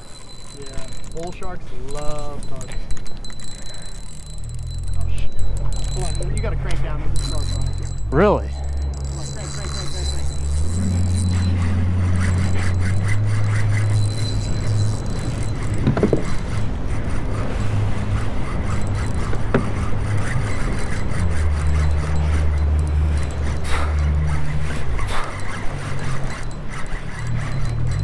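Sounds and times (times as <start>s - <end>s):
fishing reel whirring: 0.0s - 28.0s
low hum: 0.0s - 28.0s.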